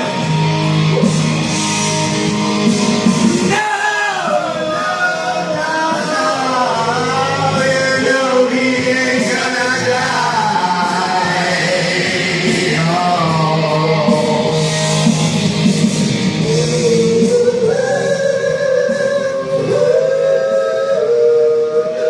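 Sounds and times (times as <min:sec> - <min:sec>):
rock backing track with guitar: 0:00.0 - 0:21.0
people singing karaoke: 0:00.0 - 0:22.0.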